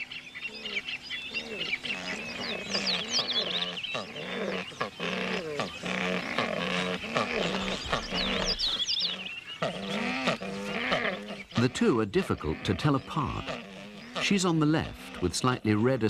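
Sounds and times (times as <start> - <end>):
birds croaking low: 0.0 - 16.0
small birds chirping: 0.0 - 16.0.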